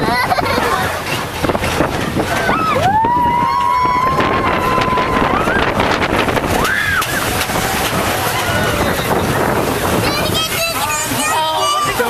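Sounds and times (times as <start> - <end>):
roller coaster rumble: 0.0 - 12.0
wind noise on microphone: 0.0 - 12.0.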